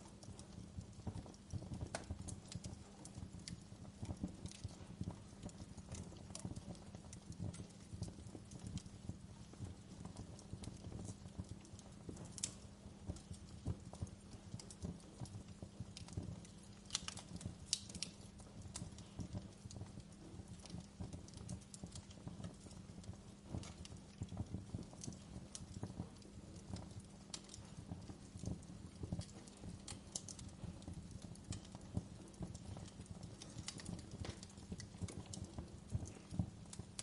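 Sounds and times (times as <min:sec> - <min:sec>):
low rumble of flames: 0:00.0 - 0:37.0
wood fire crackling: 0:00.0 - 0:37.0.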